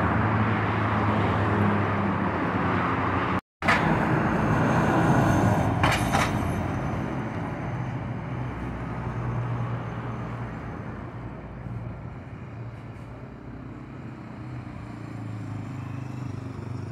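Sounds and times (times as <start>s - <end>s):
bus diesel engine passing: 0.0s - 16.9s.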